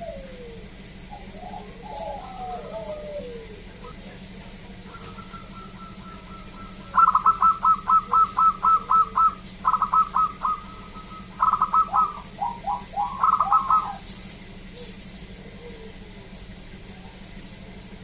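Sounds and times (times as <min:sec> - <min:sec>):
dove cooing: 0:00.0 - 0:16.4.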